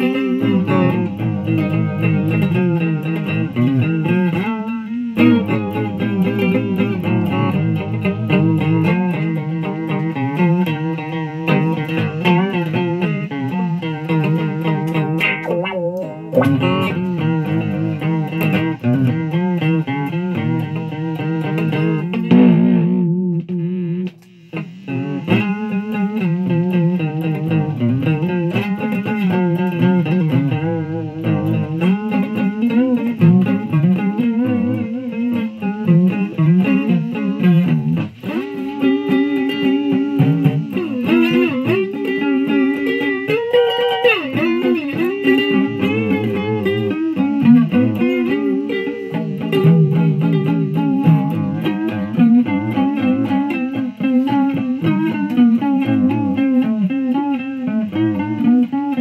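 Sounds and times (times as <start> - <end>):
distorted fuzz electric guitar: 0.0 - 59.0.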